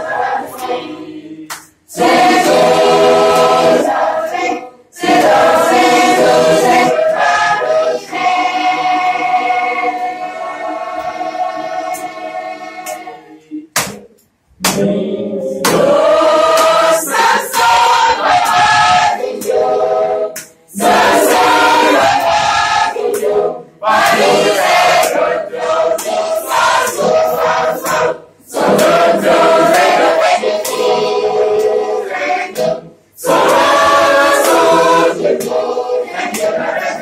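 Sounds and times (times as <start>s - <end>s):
mixed choir singing: 0.0s - 37.0s.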